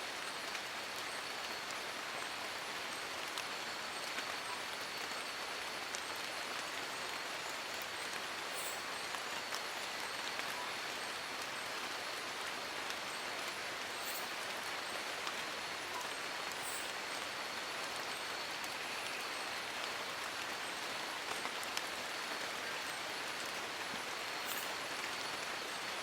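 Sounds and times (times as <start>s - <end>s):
rain on leaves: 0.0s - 26.0s.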